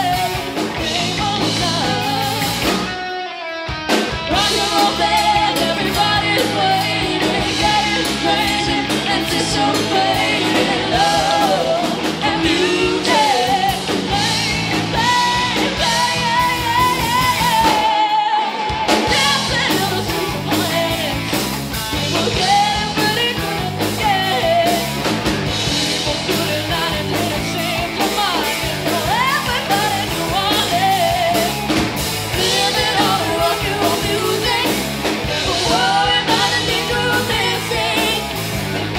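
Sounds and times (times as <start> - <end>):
woman singing: 0.0 - 2.7, 4.3 - 21.4, 22.0 - 25.0, 26.0 - 31.7, 32.3 - 38.5
bass guitar: 0.0 - 38.9
distorted electric guitars: 0.0 - 38.9
drum kit: 0.0 - 38.9.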